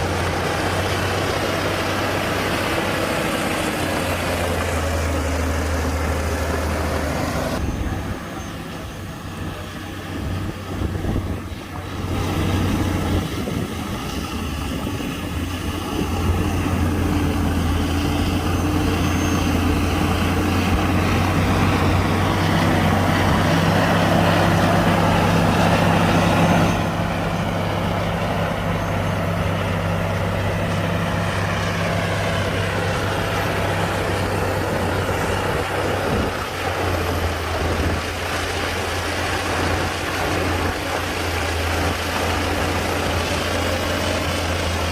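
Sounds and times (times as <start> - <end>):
heavy diesel machinery engine: 0.0 - 44.9.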